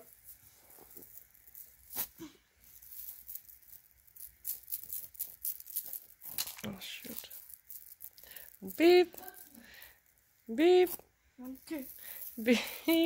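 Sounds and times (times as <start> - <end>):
plastic beads clicking and rattling: 0.0 - 13.0.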